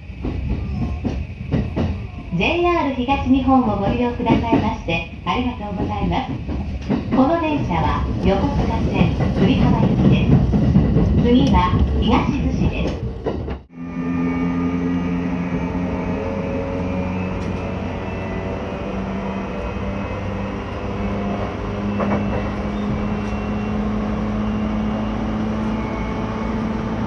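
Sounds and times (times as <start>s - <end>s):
wheels rumbling on rail: 0.0s - 27.0s.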